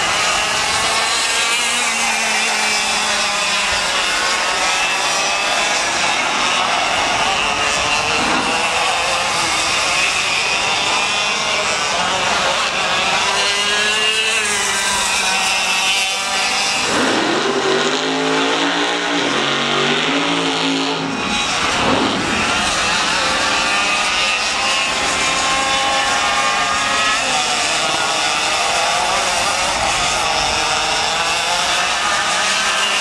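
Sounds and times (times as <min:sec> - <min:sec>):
kart engines whining: 0:00.0 - 0:33.0
nearer lower engine: 0:00.0 - 0:33.0.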